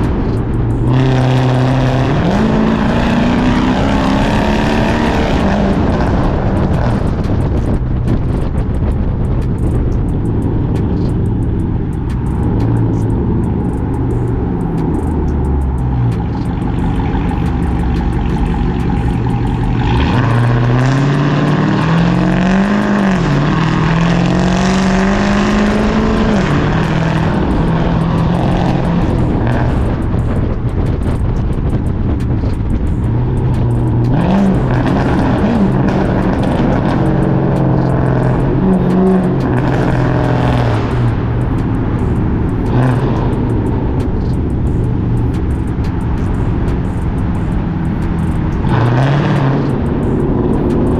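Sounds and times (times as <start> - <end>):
car exhaust rumbling and revving: 0.0 - 50.9.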